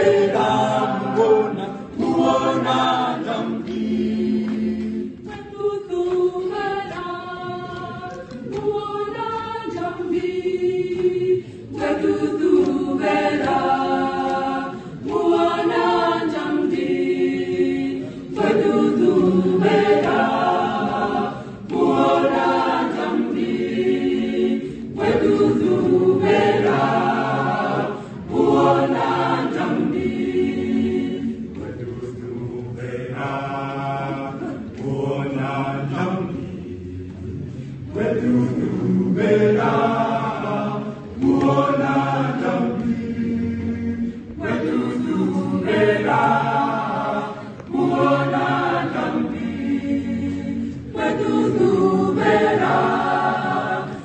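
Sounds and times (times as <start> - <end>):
mixed choir singing unaccompanied: 0.0 - 54.0.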